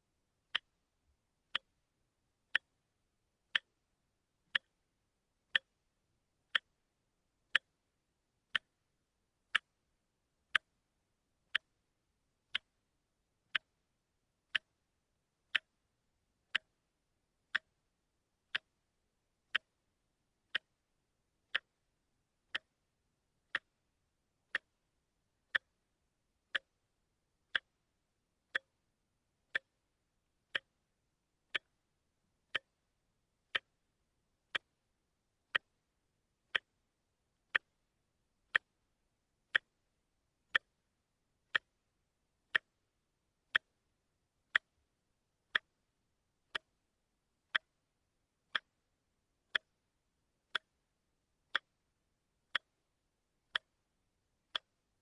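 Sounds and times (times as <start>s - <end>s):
wristwatch ticking: 0.5s - 0.8s, 1.5s - 1.8s, 2.4s - 10.8s, 11.4s - 16.8s, 17.4s - 26.9s, 27.5s - 28.9s, 29.5s - 31.9s, 32.5s - 34.9s, 35.5s - 38.9s, 39.5s - 55.0s.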